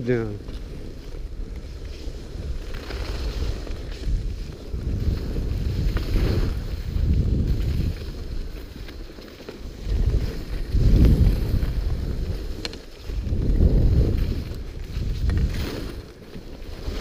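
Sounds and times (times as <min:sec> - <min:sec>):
skis sliding over snow: 0:00.0 - 0:17.0
wind rushing over microphone: 0:00.0 - 0:17.0.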